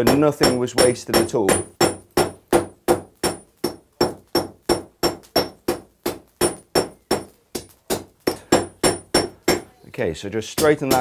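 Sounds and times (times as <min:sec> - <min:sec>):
hammer striking iron on anvil: 0:00.0 - 0:09.7, 0:10.6 - 0:11.0.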